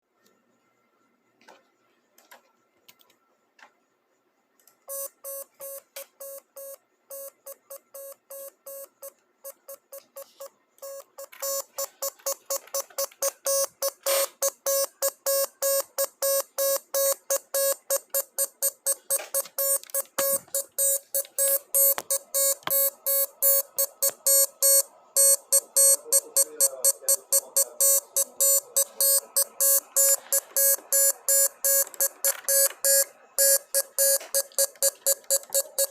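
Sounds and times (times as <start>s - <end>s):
morse code electronic beeps: 4.9s - 35.9s.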